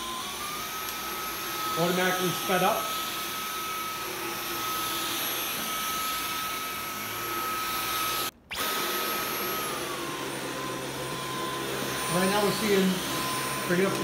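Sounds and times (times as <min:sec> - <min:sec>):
vacuum cleaner suction rush: 0:00.0 - 0:14.0
vacuum cleaner whine: 0:00.0 - 0:14.0.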